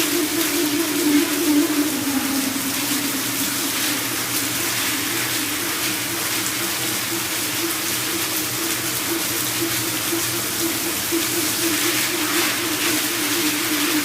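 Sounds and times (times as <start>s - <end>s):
coolant hissing: 0.0s - 14.0s
machine hum: 0.0s - 14.0s.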